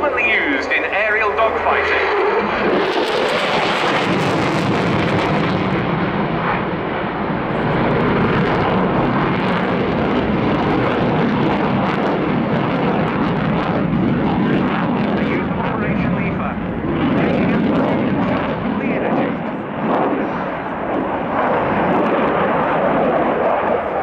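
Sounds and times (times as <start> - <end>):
fighter jet engine: 0.0 - 24.0.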